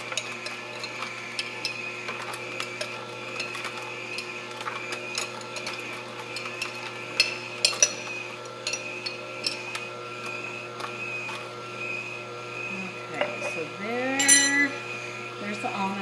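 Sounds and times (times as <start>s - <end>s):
almonds cracking in juicer: 0.0s - 16.0s
juicer motor hum: 0.0s - 16.0s.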